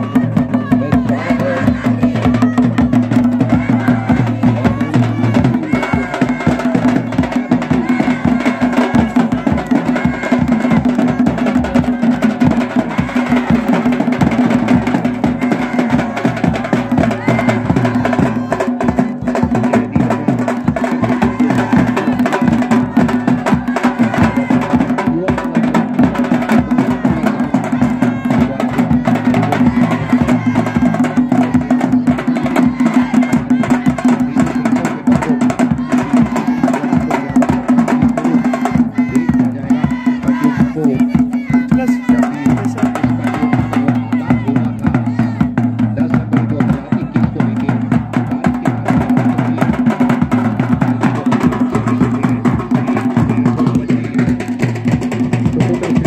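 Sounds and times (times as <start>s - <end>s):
fast drumming on barrel drum: 0.0s - 56.0s.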